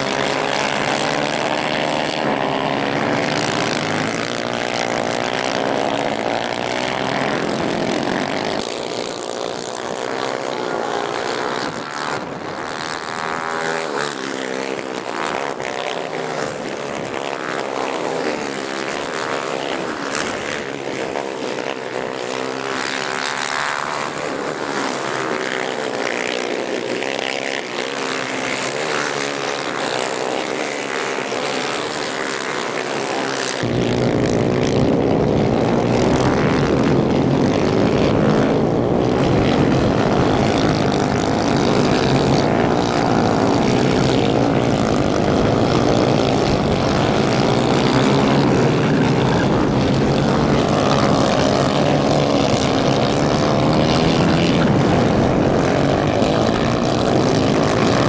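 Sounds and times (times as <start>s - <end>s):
racing kart engines at high revs: 0.0s - 58.0s.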